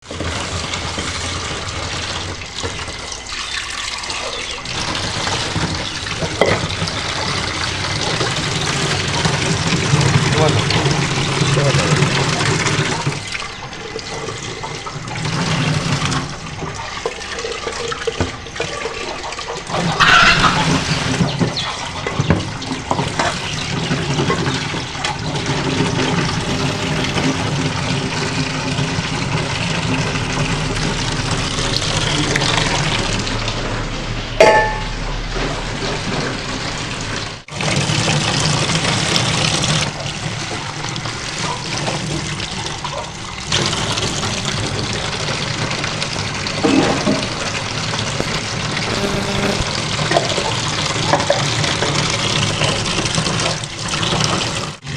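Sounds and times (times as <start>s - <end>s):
water running and splashing: 0.0s - 54.9s.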